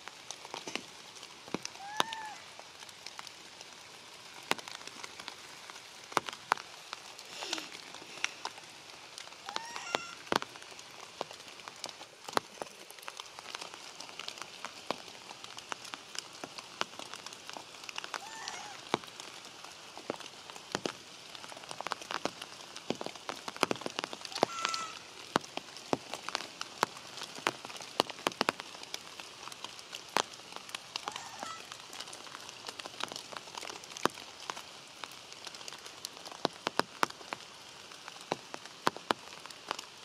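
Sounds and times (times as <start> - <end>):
rain on foliage: 0.0 - 40.0
raindrops ticking: 0.0 - 40.0.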